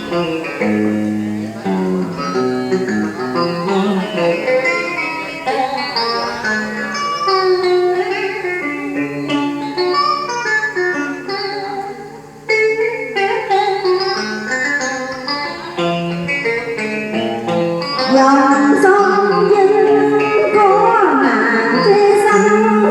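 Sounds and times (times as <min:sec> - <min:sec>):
plucked string instruments melody: 0:00.0 - 0:22.9.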